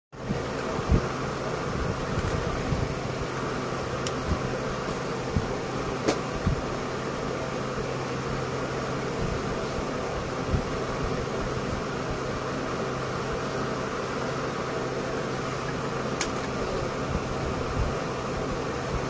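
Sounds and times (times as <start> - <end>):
electric machine hum: 0.2 - 19.0.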